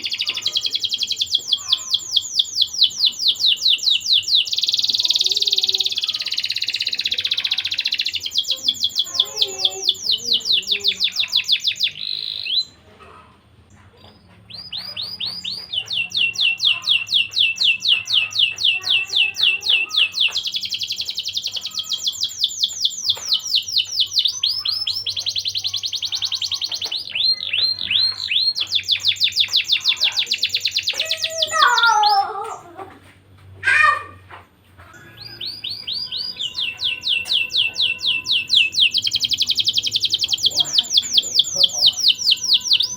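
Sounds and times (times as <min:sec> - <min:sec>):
canary singing trills: 0:00.0 - 0:12.9, 0:13.7 - 0:32.7, 0:34.9 - 0:42.9.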